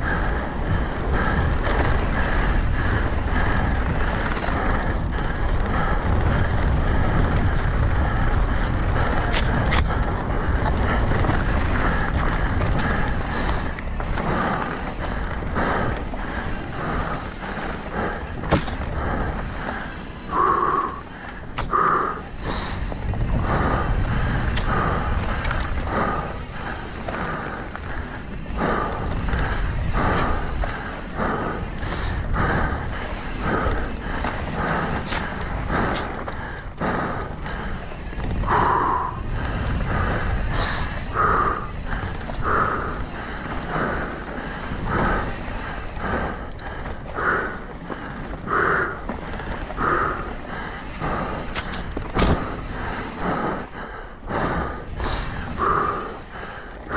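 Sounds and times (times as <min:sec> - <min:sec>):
bike rattling over rough ground: 0:00.0 - 0:56.9
rider breathing hard: 0:00.0 - 0:56.9
wind rumble on microphone: 0:00.0 - 0:56.9.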